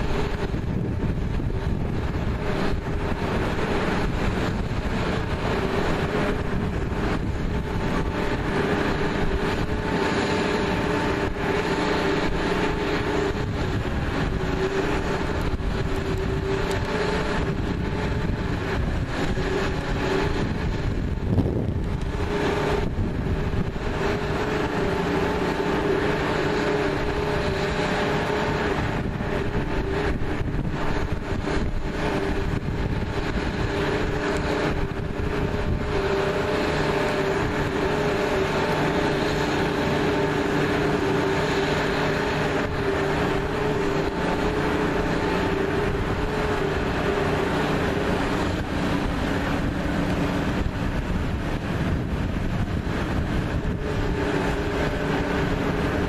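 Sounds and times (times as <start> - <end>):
fire engine pumps humming: 0.0 - 56.0
water rushing: 0.0 - 56.0.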